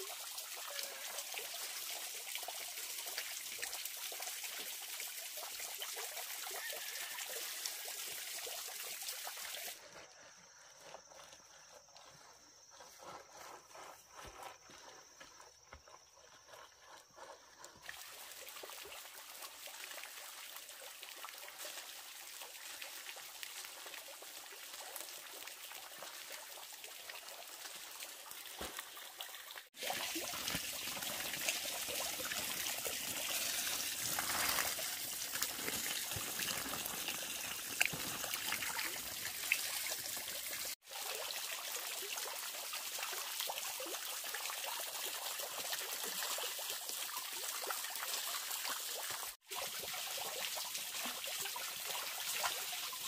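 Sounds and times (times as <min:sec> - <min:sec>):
fountain water splashing into pond: 0:00.0 - 0:09.8, 0:17.8 - 0:53.0.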